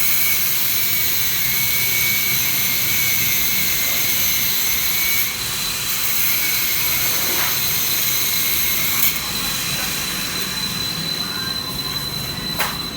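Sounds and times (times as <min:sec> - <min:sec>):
angle grinder cutting metal: 0:00.0 - 0:12.8.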